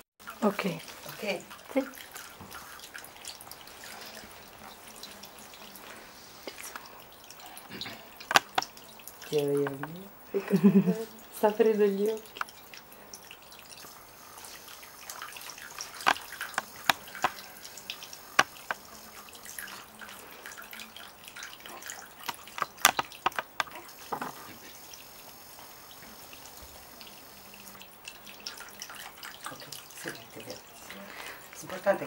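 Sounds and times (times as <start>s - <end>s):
water drips and splashes: 0.2s - 32.0s
water fountain trickling: 0.2s - 32.0s.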